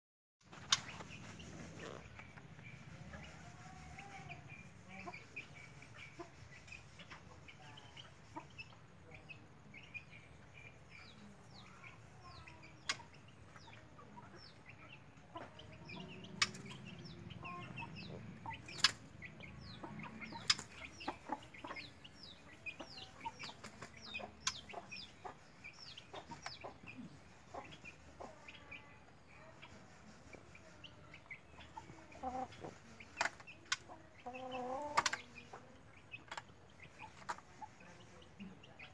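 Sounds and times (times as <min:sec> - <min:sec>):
chick chirping: 0:00.5 - 0:38.9.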